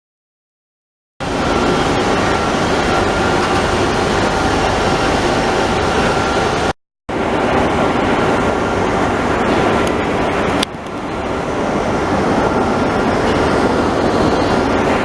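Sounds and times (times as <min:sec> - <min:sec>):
lathe running with faint whine: 0:01.2 - 0:10.3, 0:11.0 - 0:15.0.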